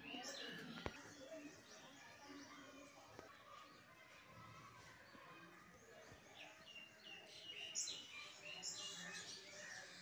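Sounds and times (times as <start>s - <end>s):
small birds chirping: 0.0s - 3.9s, 4.7s - 10.0s.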